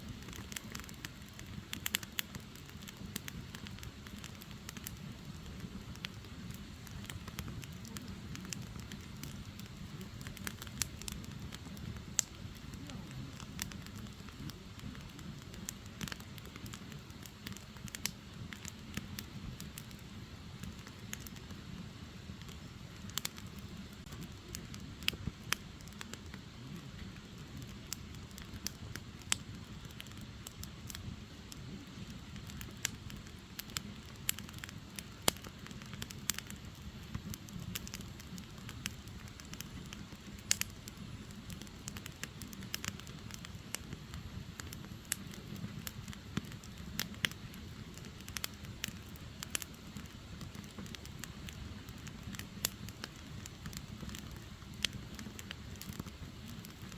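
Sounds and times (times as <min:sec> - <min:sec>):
firewood crackling and popping: 0:00.0 - 0:56.9
low rumble of flames: 0:00.0 - 0:56.9.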